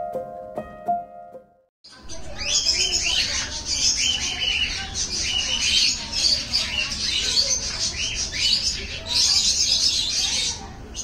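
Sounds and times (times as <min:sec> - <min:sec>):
birds chirping and squawking: 0:01.9 - 0:11.0.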